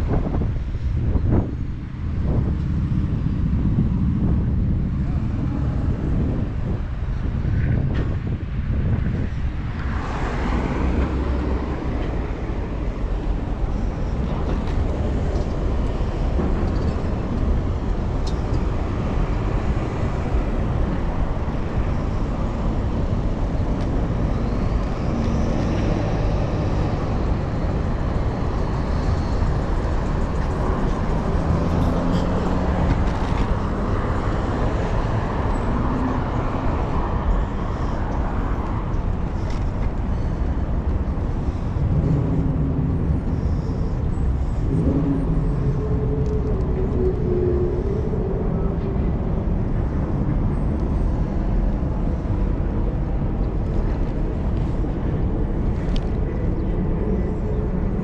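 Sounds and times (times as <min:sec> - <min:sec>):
low road rumble: 0:00.0 - 0:58.0
passing motor vehicles: 0:00.0 - 0:58.0
engine hum passing: 0:09.1 - 0:58.0.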